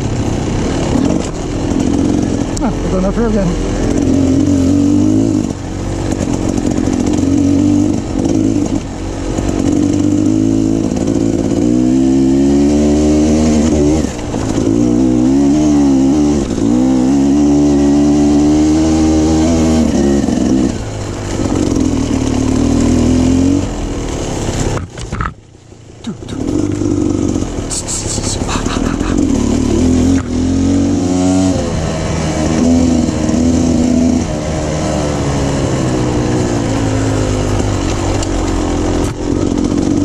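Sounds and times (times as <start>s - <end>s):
dirt bike engine revving: 0.0s - 24.8s, 26.0s - 40.0s.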